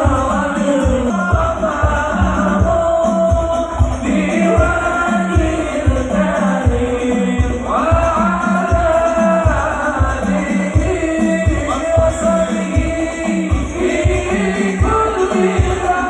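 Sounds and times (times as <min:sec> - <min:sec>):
frame drums beating: 0:00.0 - 0:16.0
voices singing devotional song: 0:00.0 - 0:16.0.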